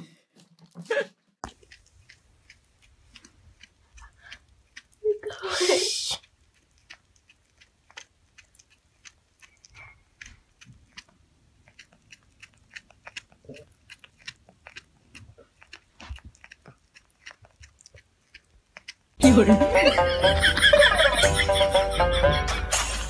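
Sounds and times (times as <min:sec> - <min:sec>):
cat chewing yarn: 0:01.4 - 0:21.2.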